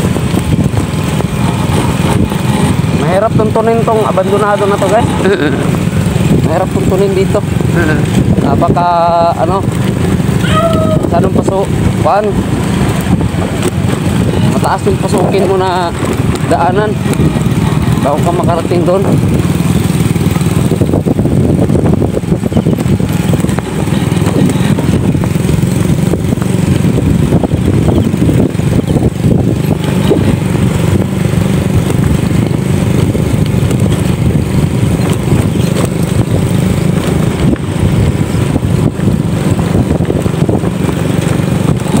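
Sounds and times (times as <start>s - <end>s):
motorcycle engine and road rumble: 0.0s - 42.0s.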